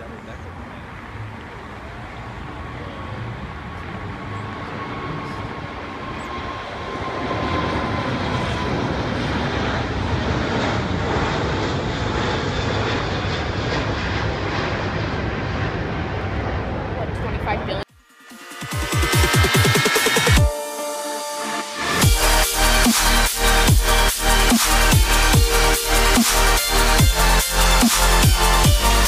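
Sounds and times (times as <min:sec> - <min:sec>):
faint jet engine whine: 0:00.0 - 0:28.9
jet airliner taking off: 0:00.1 - 0:28.8.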